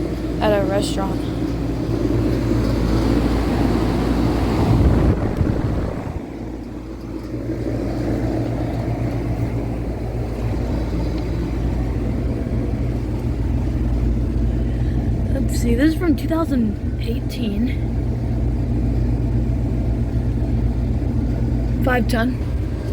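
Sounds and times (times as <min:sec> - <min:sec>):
compressor electric hum: 0:00.0 - 0:22.9
condenser fan rushing: 0:00.0 - 0:22.9.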